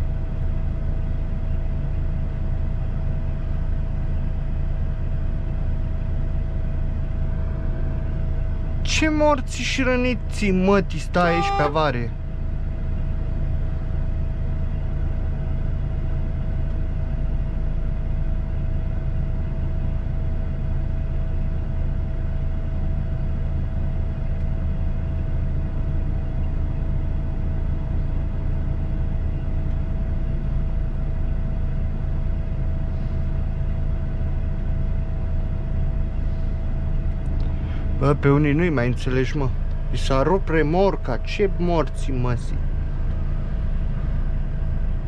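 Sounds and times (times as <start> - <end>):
diesel truck engine idling: 0.0 - 45.0.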